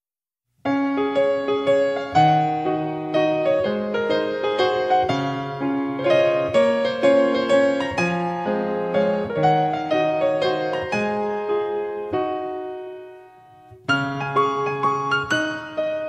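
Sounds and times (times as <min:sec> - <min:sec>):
slow piano music: 0:00.6 - 0:16.0.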